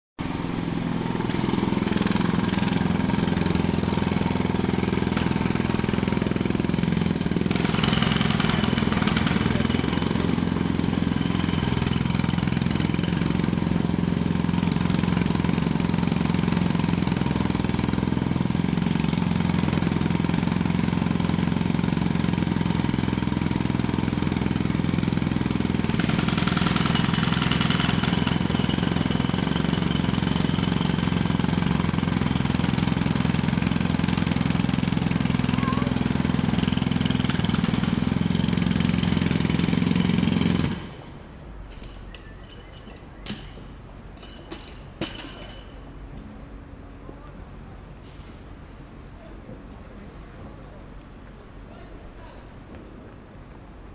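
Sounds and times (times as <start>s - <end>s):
jackhammer hammering: 0.2s - 45.9s.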